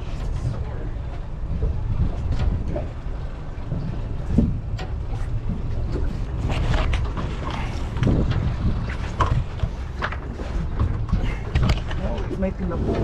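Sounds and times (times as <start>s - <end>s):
water rumbling around boat: 0.0s - 13.0s
water splashes: 0.0s - 13.0s
wind buffeting microphone: 0.0s - 13.0s.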